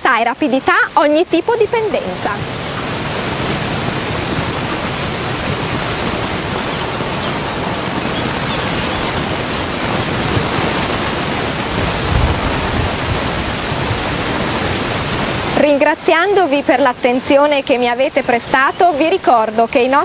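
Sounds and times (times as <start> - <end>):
steady rushing hiss: 0.4 - 17.5.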